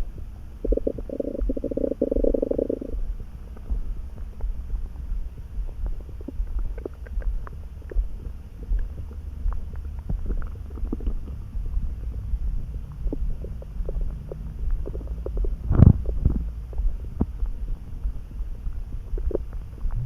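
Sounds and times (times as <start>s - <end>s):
stomach gurgling: 0.6s - 3.0s, 5.6s - 20.0s.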